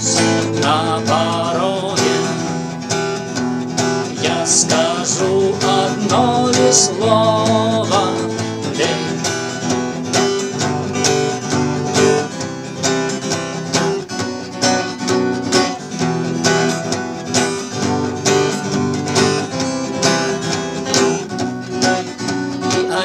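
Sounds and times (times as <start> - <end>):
instrumental guitar music: 0.0 - 23.0.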